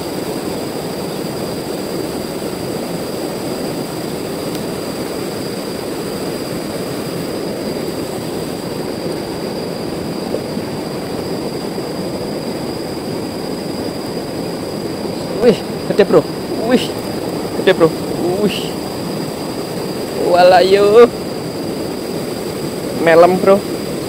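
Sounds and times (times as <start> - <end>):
river rushing over rocks: 0.0 - 24.0
thin high whines: 0.0 - 24.0.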